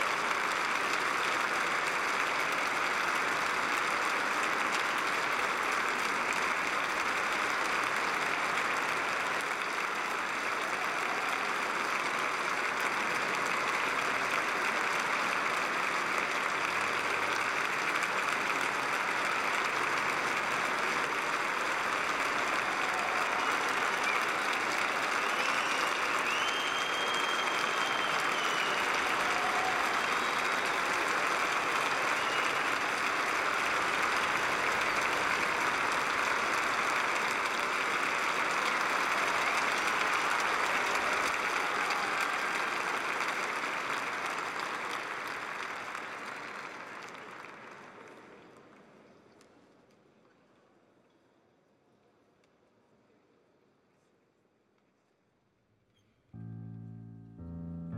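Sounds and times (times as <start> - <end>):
crowd applauding: 0.0 - 49.1.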